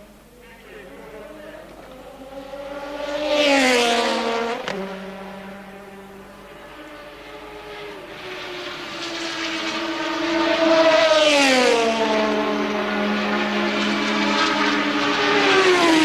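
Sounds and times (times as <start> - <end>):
race car engine steady note: 0.0 - 16.0
race car passing by: 0.3 - 16.0.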